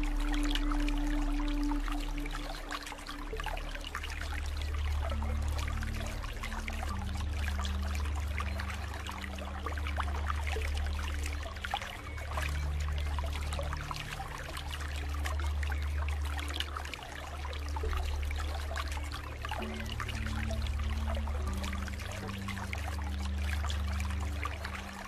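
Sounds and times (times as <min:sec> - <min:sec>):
low drone with soft notes: 0:00.0 - 0:25.0
rain falling steadily: 0:00.0 - 0:25.0.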